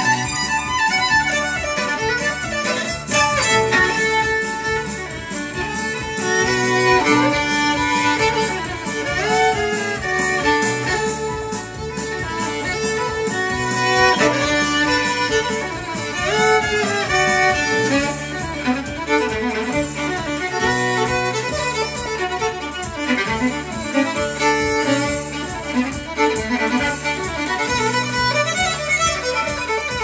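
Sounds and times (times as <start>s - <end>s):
fiddle melody: 0.0s - 30.0s
low accompaniment: 0.0s - 30.0s.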